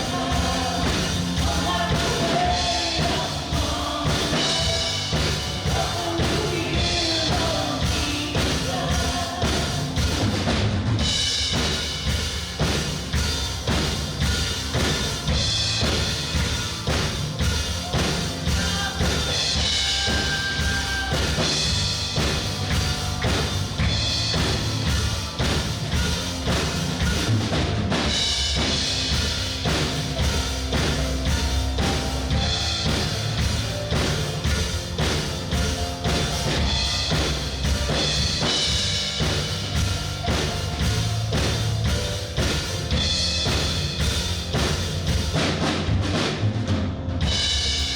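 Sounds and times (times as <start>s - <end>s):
drum kit beat: 0.0s - 47.9s
worship band playing: 0.0s - 47.9s.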